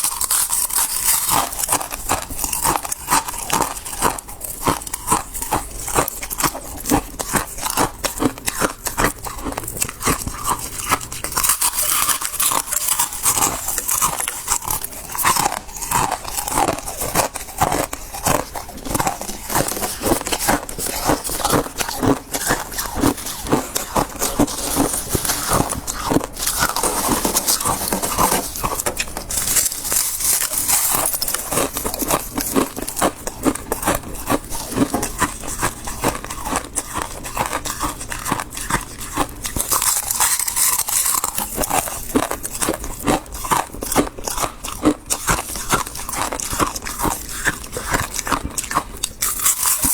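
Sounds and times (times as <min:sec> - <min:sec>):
frost being chewed crunching: 0:00.0 - 0:49.9.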